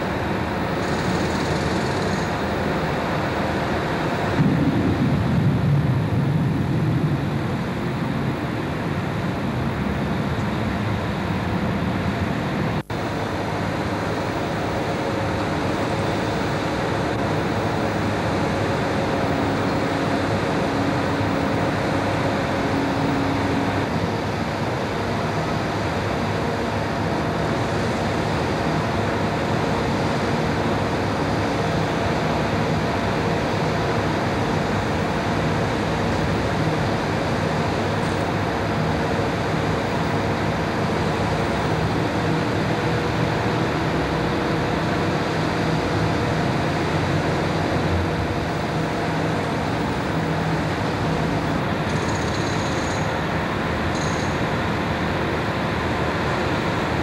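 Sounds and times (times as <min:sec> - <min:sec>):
distant heavy machinery running: 0:00.0 - 0:57.0
faint steady hum: 0:00.0 - 0:57.0
industrial site noise: 0:00.0 - 0:57.0.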